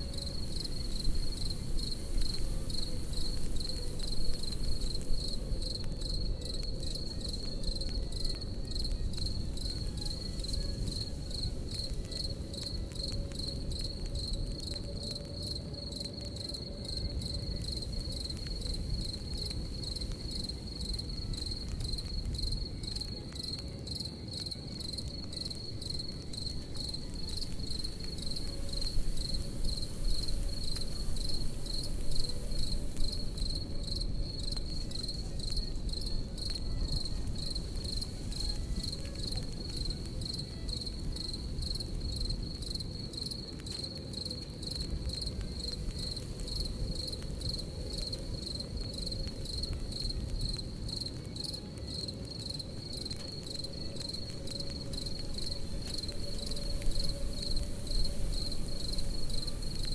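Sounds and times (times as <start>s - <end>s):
campfire rumbling and crackling: 0.0s - 59.9s
crickets chirping: 0.0s - 59.9s.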